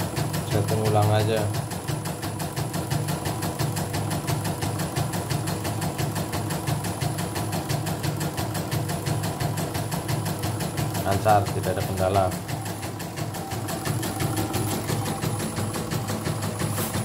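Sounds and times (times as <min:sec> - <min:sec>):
embroidery machine needle stitching: 0:00.0 - 0:17.0
motor hum: 0:00.0 - 0:17.0.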